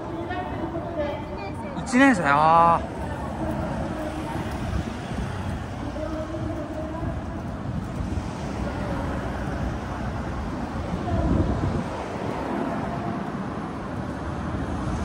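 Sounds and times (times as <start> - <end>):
city traffic passing: 0.0 - 15.0
wheels rolling on asphalt: 0.0 - 15.0.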